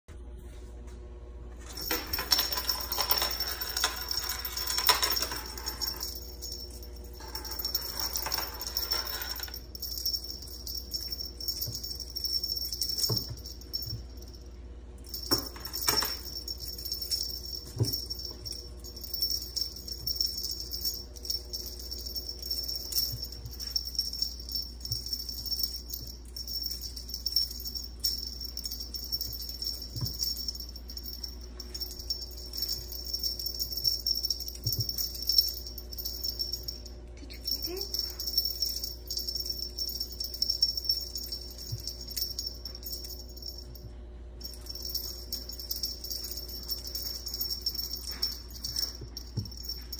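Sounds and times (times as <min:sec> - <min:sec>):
beaded toy jingling and rattling: 0:01.7 - 0:49.9.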